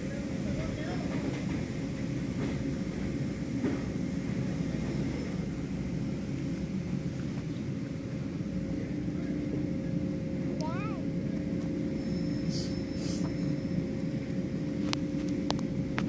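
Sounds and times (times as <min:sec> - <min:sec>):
wash machinery rumble: 0:00.0 - 0:16.0.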